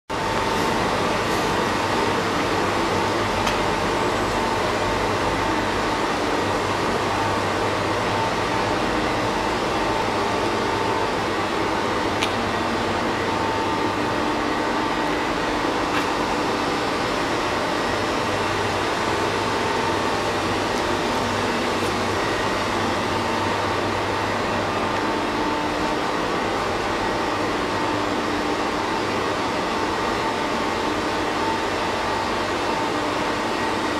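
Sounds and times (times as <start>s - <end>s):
machinery hum: 0.1s - 33.9s.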